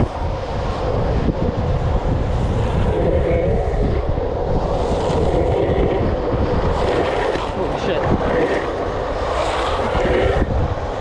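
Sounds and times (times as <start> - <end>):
wavering wheel hum: 0.0 - 11.0
wheels rumbling on asphalt: 0.0 - 11.0
wind rushing over microphone: 0.0 - 11.0.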